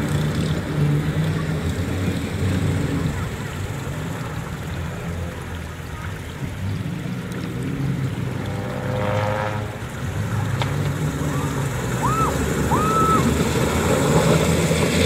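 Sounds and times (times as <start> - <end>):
off-road vehicle engine drone: 0.0 - 15.0.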